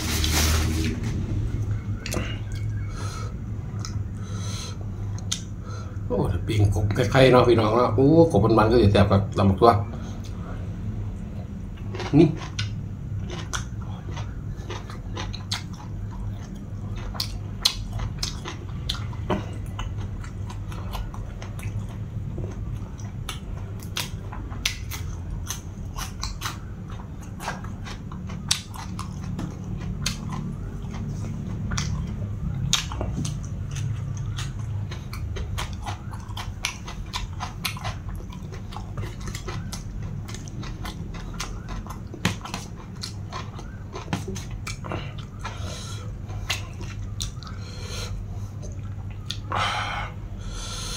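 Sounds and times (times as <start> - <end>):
person chewing food: 0.0 - 6.1, 10.0 - 50.9
steady low hum: 0.0 - 50.9.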